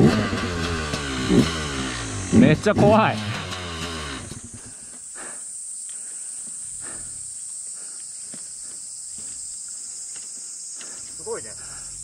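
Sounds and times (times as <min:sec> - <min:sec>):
high-pitched insect chorus: 0:01.5 - 0:12.0.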